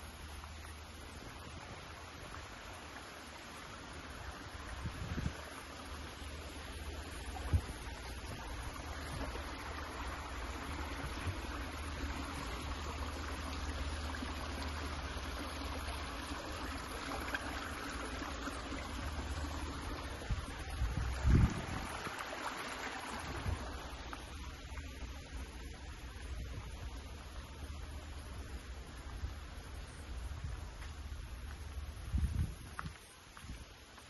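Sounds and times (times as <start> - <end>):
stream water rushing: 0.0 - 34.0.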